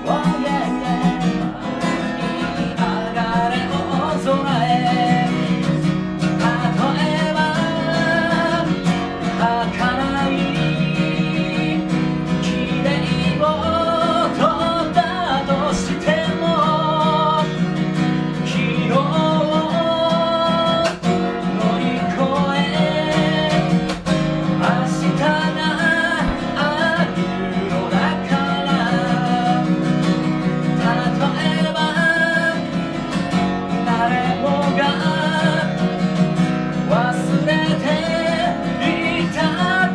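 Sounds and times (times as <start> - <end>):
acoustic guitar strummed: 0.0 - 39.9
man singing: 0.0 - 39.9.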